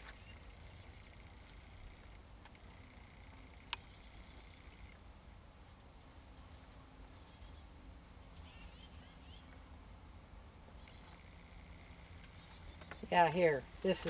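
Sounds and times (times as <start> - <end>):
high insect trill: 0.0 - 14.0.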